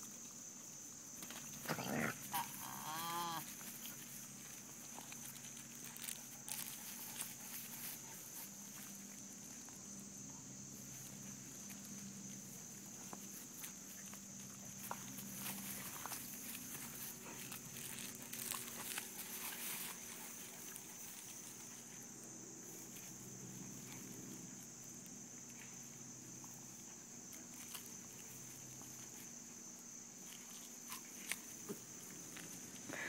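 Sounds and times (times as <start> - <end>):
high insect buzz: 0.0 - 33.0.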